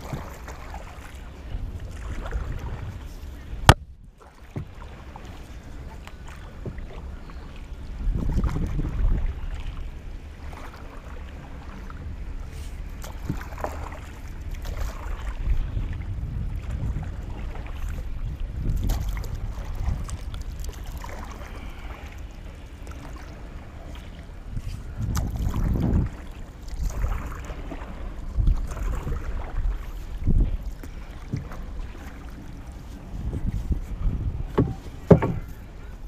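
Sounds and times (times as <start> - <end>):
wind on microphone: 0.0 - 4.7, 6.6 - 10.1, 11.7 - 22.6, 23.3 - 36.0
paddle splashing in water: 0.0 - 36.0.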